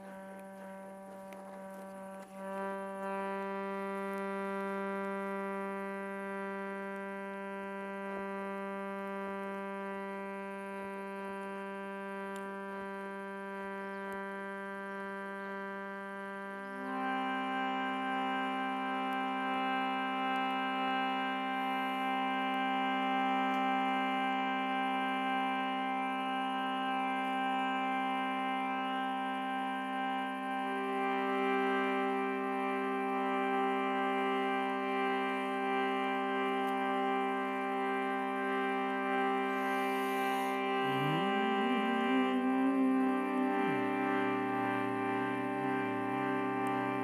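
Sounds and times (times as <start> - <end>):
shruti box reed drone: 0.0 - 47.0.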